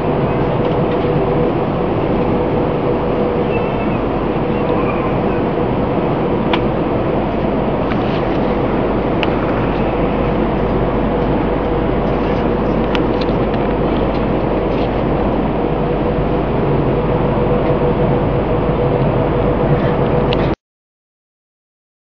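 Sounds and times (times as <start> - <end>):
airplane engine rushing hum: 0.0 - 20.6.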